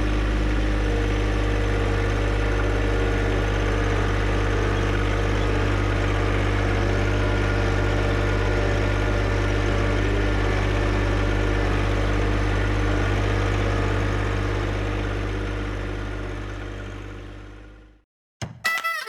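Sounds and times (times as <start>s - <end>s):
tractor diesel engine running: 0.0s - 17.7s.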